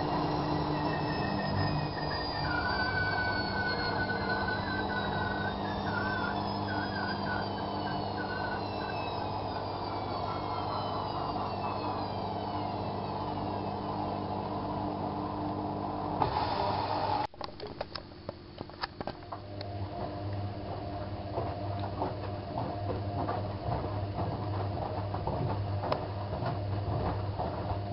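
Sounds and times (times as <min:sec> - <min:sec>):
washing machine drum whining: 0:00.0 - 0:17.3, 0:19.2 - 0:27.9.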